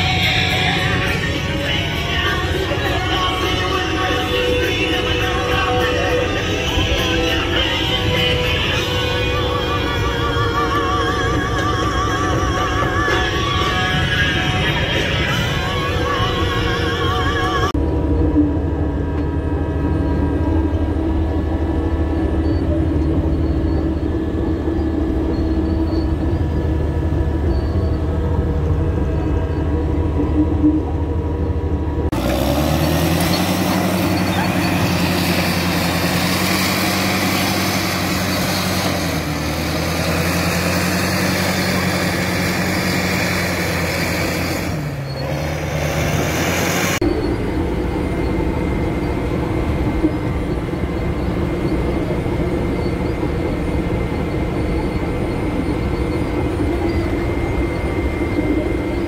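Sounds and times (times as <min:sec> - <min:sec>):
diesel engine running: 0:00.0 - 0:59.0
heavy diesel engine drone: 0:00.0 - 0:59.0.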